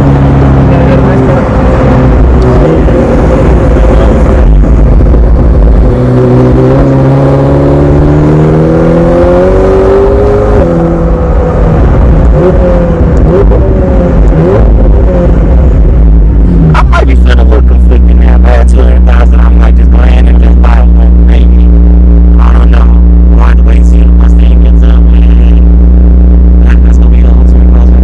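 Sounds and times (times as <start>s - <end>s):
sports car engine accelerating: 0.0s - 28.0s.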